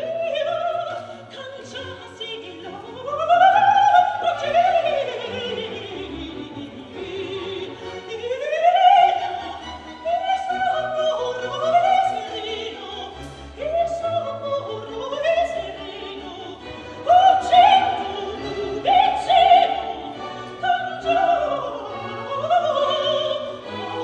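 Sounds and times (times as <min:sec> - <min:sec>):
orchestra playing: 0:00.0 - 0:24.0
soprano singing opera: 0:00.0 - 0:24.0.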